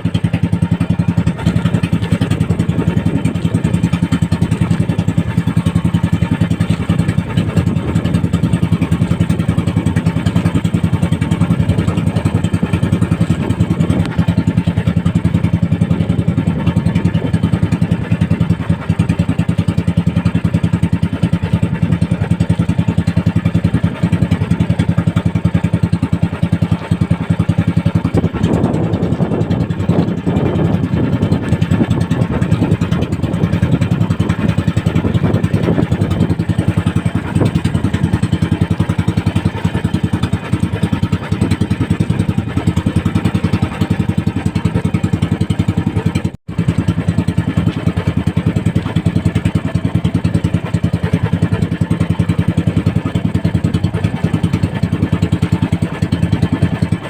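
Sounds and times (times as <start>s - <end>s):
small boat engine droning: 0.0s - 57.0s.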